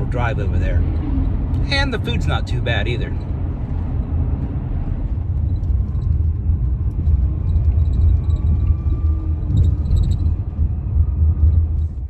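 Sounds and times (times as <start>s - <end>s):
faint whine: 0.0s - 12.0s
road and engine rumble: 0.0s - 12.0s.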